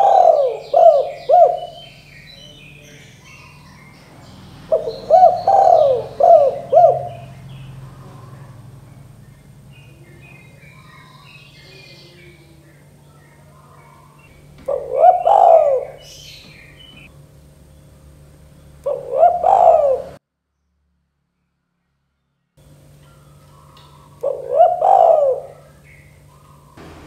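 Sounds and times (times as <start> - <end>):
dove cooing: 0.0 - 17.1, 18.8 - 20.2, 23.0 - 27.0
small birds chirping: 0.0 - 20.2, 22.6 - 27.0
low steady hum: 0.0 - 27.0.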